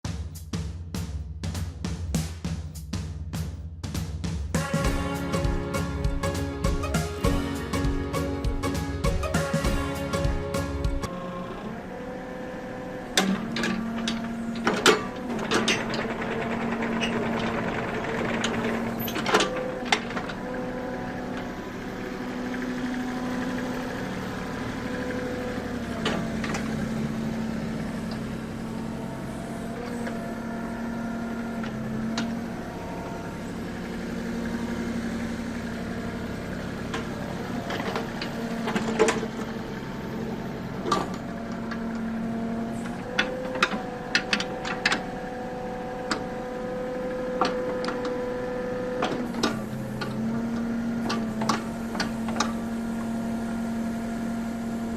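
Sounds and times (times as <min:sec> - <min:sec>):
excavator diesel engine running: 0:04.5 - 0:54.9.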